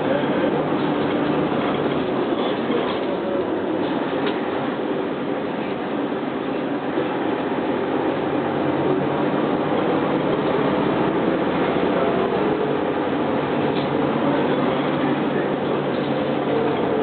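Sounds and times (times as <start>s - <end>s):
bus engine droning: 0.0s - 17.0s
road noise: 0.0s - 17.0s.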